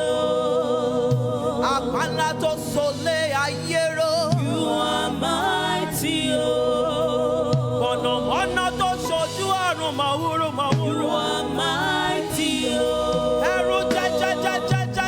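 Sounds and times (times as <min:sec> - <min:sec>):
keyboard and bass accompaniment: 0:00.0 - 0:15.0
voices singing worship song: 0:00.0 - 0:15.0.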